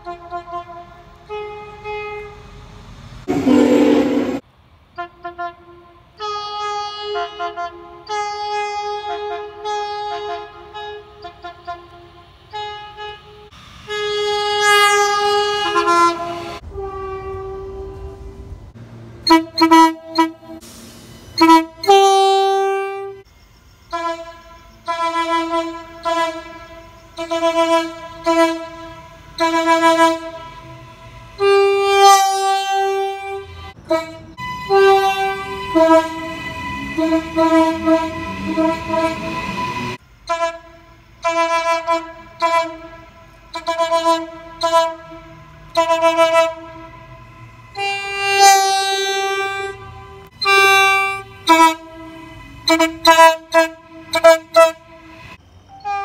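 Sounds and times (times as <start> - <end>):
train horn blasts: 0.0 - 18.6, 19.2 - 20.6, 21.4 - 23.2, 23.8 - 56.0.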